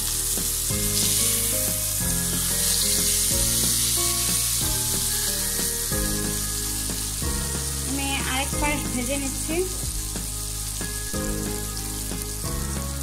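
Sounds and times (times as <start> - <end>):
background music: 0.0 - 13.0
eggplant sizzling in oil: 0.0 - 13.0.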